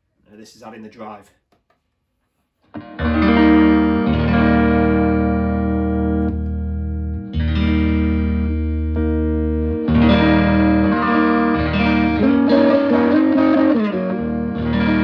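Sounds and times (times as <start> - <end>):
electric guitar chords ringing: 2.7 - 15.0.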